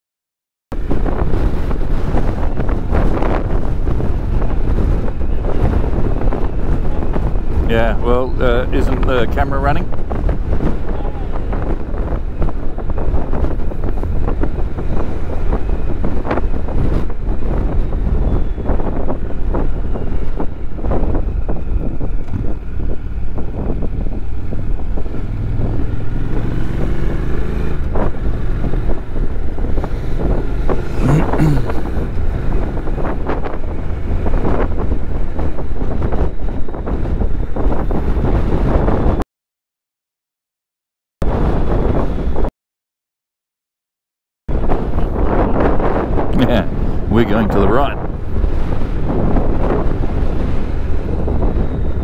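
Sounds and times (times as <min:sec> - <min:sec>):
wind buffeting microphone: 0:00.7 - 0:39.2, 0:41.2 - 0:42.5, 0:44.5 - 0:52.0.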